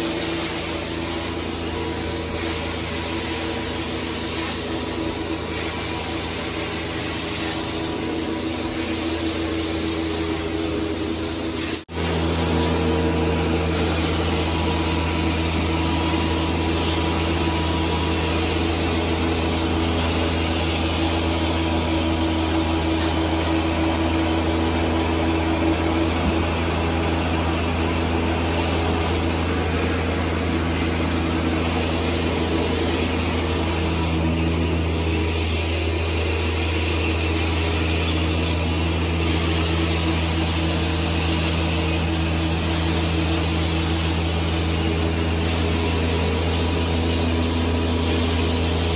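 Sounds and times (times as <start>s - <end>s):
carpet cleaning machine drone: 0.0s - 48.9s
wand hissing spraying water: 0.0s - 48.9s.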